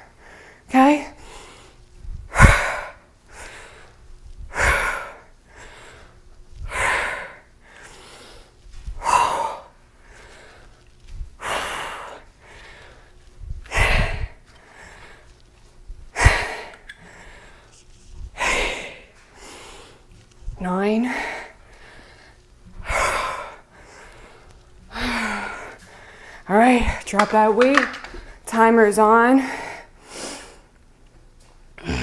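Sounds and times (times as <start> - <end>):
woman breathing heavily: 0.0 - 27.2, 28.0 - 28.5, 29.2 - 30.8.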